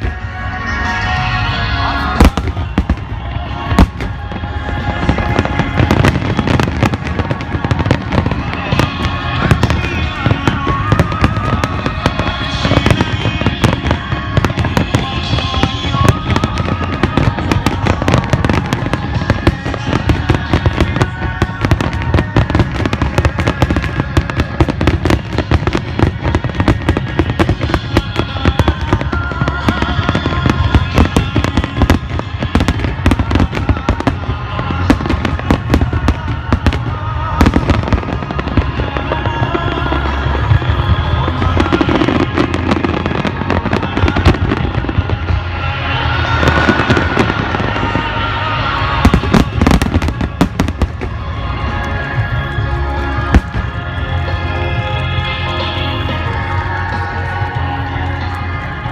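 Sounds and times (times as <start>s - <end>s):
fireworks bursting and crackling: 0.0s - 58.9s
music playing: 0.0s - 58.9s.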